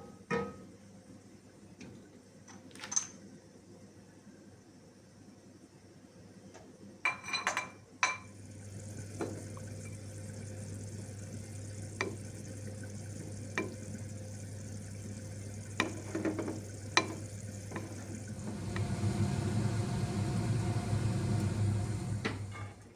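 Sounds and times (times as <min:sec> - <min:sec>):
low hum with soft hiss: 0:00.0 - 0:22.9.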